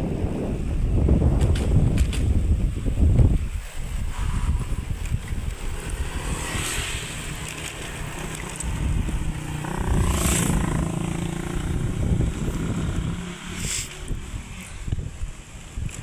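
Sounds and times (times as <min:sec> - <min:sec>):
air rushing: 0:00.0 - 0:15.3
vehicle engine rumble: 0:00.0 - 0:16.0
wind buffeting microphone: 0:00.0 - 0:16.0.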